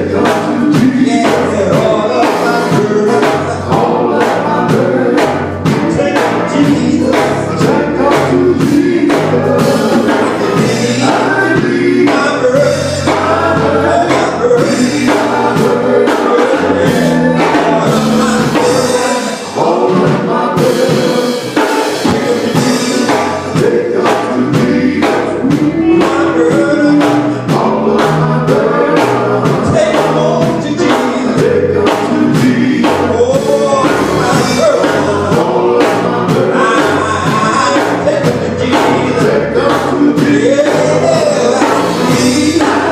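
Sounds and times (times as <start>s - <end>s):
drums at a steady beat: 0.0s - 42.9s
group vocals: 0.0s - 42.9s
live band playing gospel song: 0.0s - 42.9s
male lead singer: 0.0s - 42.9s.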